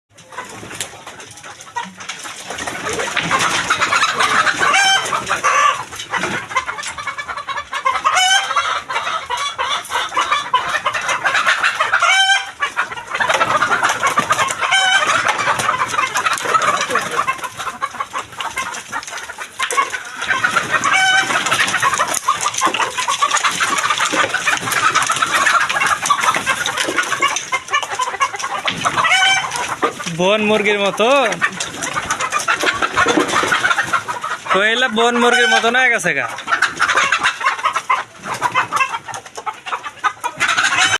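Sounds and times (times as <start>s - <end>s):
chickens clucking: 0.1s - 40.9s.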